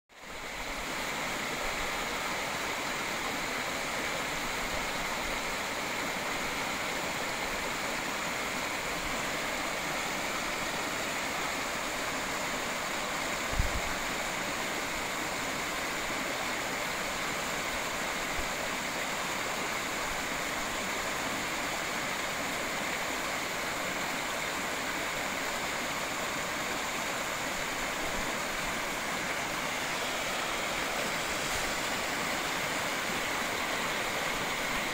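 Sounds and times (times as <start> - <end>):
waterfall splashing over rocks: 0.2 - 34.9.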